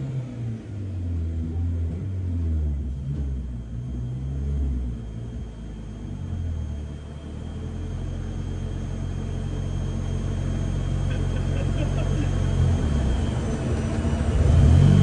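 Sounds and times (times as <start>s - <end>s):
rotary engine idling lumpily: 0.6s - 3.9s, 4.7s - 15.0s.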